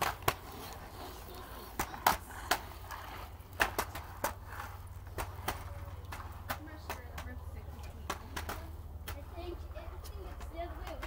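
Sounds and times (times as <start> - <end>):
board wheels rolling on concrete: 0.0 - 11.0.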